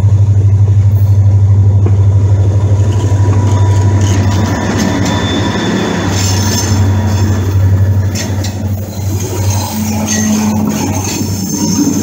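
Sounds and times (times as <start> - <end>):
diesel locomotive engines throbbing: 0.0 - 12.0
wheels squealing on rails: 2.2 - 12.0.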